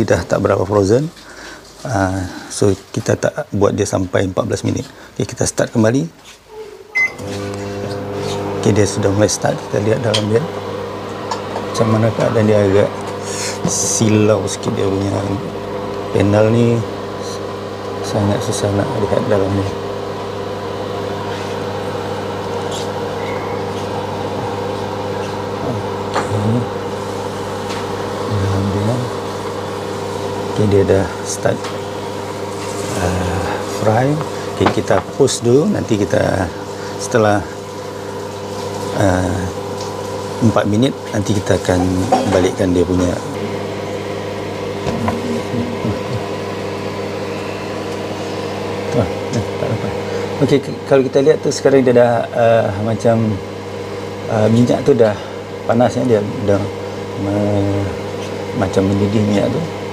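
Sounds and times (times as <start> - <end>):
microwave oven hum with fan: 0.0 - 59.9.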